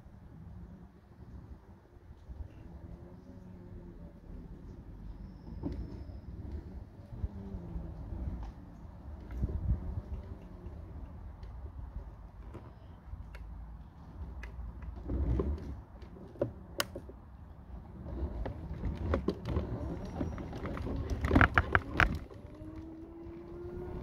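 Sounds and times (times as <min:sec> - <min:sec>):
road and wind rumble: 0:00.0 - 0:24.0.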